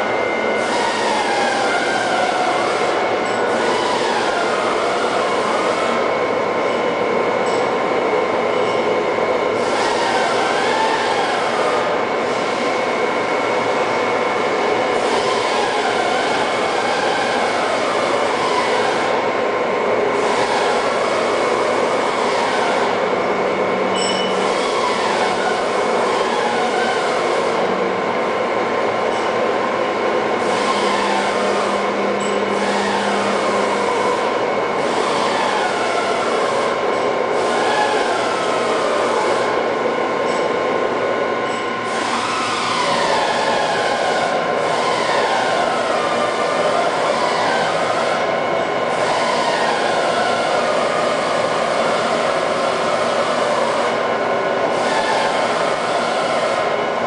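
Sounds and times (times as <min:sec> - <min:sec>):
boring mill machine whine: 0:00.0 - 0:57.0.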